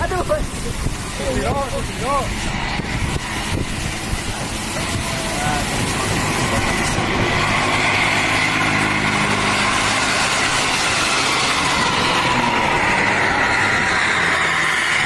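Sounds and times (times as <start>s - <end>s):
bus engine droning: 0.0s - 15.0s
street traffic noise: 0.0s - 15.0s.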